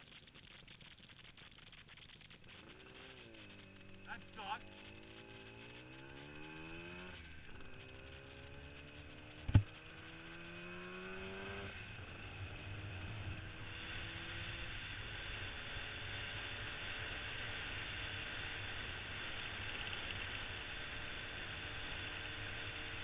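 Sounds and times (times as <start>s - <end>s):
motorcycle accelerating: 0.0s - 23.0s
wind and road noise: 2.2s - 23.0s.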